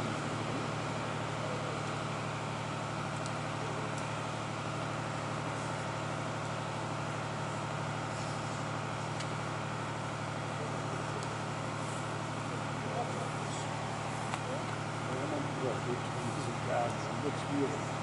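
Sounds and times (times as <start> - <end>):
heavy machinery droning hum: 0.0 - 18.0.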